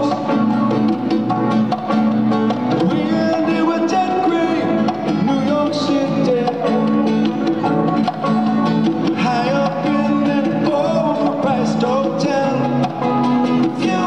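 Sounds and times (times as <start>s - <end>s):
person singing: 0.0s - 1.6s, 2.4s - 14.0s
bass line: 0.0s - 14.0s
guitar: 0.0s - 14.0s.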